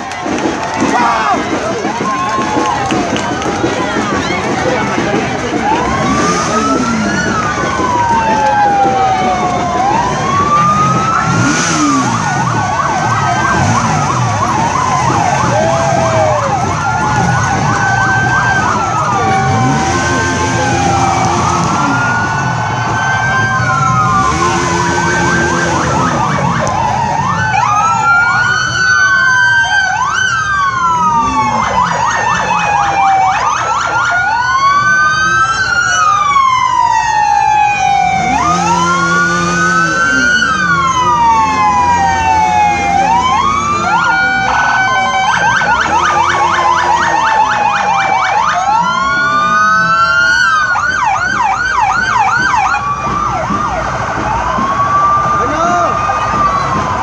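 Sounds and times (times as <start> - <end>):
emergency sirens wailing and yelping: 0.0 - 57.0.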